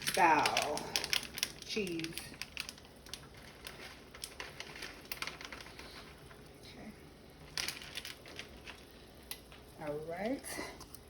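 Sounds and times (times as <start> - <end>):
cooking clicks and patter: 0.0 - 11.0.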